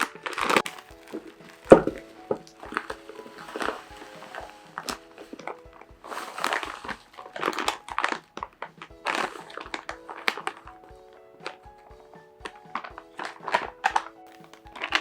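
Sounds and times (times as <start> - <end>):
rustling and handling knocks: 0.0 - 15.0
soft background music: 0.0 - 15.0.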